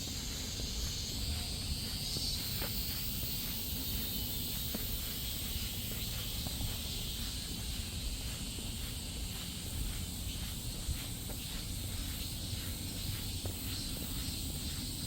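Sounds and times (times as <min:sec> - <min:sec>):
footsteps on a path: 0:00.0 - 0:15.0
high chorus of insects: 0:00.0 - 0:15.0.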